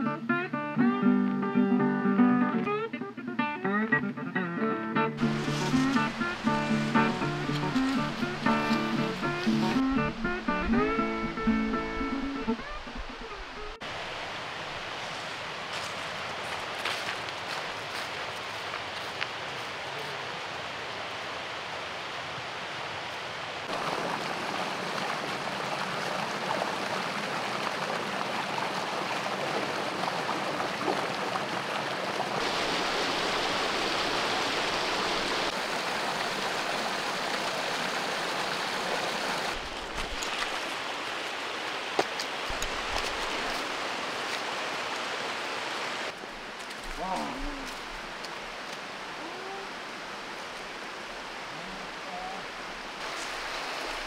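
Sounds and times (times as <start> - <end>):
water rushing: 5.2 - 54.0.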